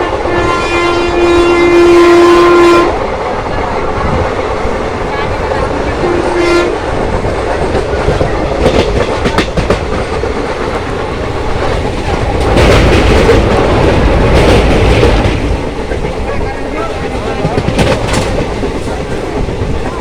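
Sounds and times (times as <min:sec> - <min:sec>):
train rumble: 0:00.0 - 0:20.0
wheel clatter over rail joints: 0:03.2 - 0:20.0.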